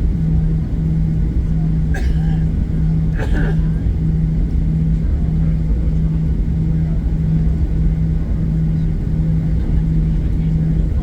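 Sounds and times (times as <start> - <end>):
airplane cabin engine rumble: 0.0 - 11.0
pulsing hum: 0.0 - 11.0.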